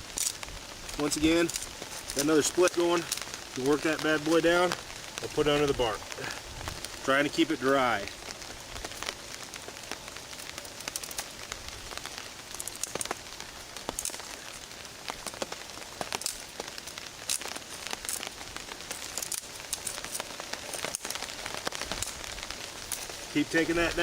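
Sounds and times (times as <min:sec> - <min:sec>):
rain falling on a tarp: 0:00.0 - 0:24.0.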